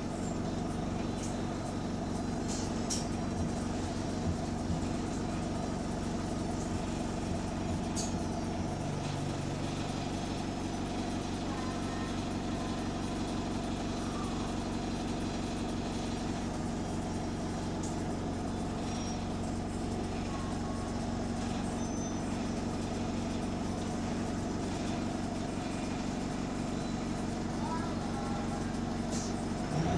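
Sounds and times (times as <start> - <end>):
bus diesel engine running: 0.0 - 29.9.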